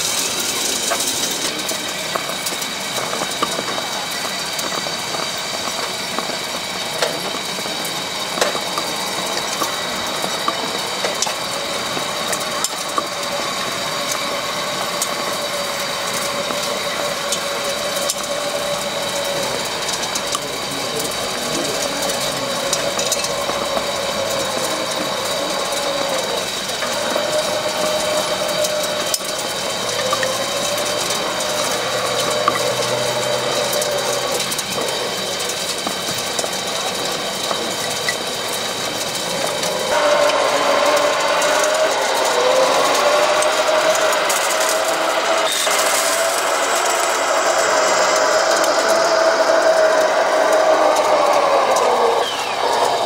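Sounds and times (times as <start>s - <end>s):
motor whine rising and falling: 0.0s - 53.0s
steady high whine: 0.0s - 53.0s.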